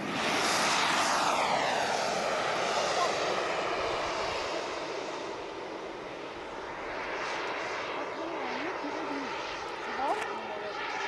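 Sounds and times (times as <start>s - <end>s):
model aircraft engine: 0.0s - 11.0s.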